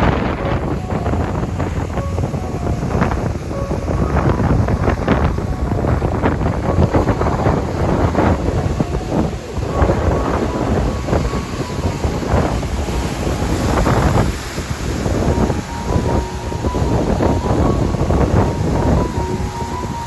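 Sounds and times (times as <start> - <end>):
sea waves: 0.0 - 20.0
wind gusts buffeting microphone: 0.0 - 20.0.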